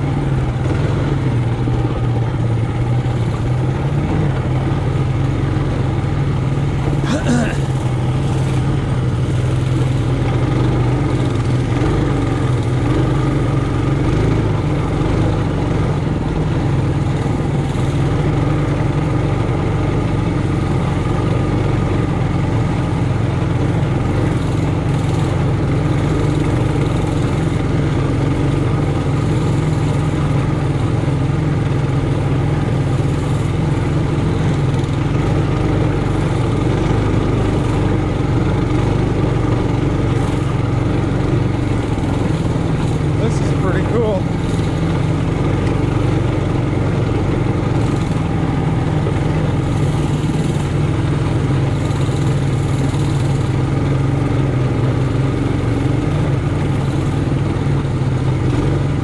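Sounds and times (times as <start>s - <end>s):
mini bike engine running: 0.0s - 59.0s.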